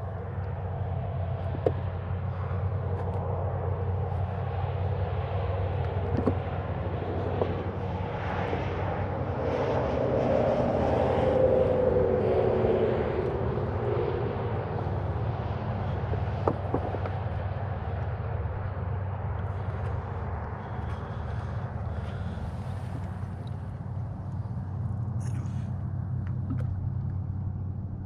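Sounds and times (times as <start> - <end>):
propeller airplane droning: 0.0 - 28.0
steady low rumble: 0.0 - 28.0.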